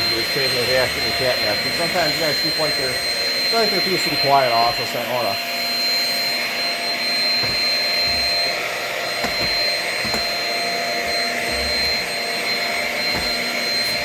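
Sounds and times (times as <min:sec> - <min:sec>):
vacuum cleaner whining: 0:00.0 - 0:14.0.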